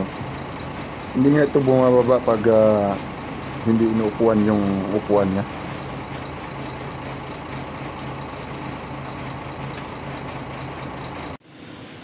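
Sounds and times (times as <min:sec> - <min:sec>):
even mechanical noise: 0:00.0 - 0:12.0
low engine-like hum: 0:00.0 - 0:12.0.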